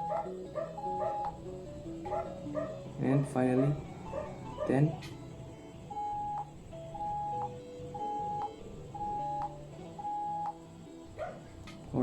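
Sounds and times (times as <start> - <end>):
morse code beeps: 0.0 - 2.9, 3.7 - 10.6.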